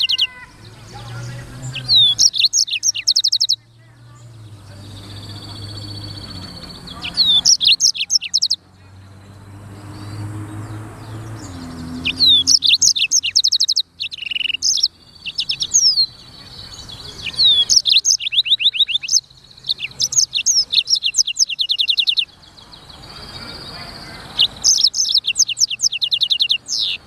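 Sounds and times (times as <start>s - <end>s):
canary trilling and chirping: 0.0s - 3.7s, 4.3s - 8.7s, 9.4s - 27.0s.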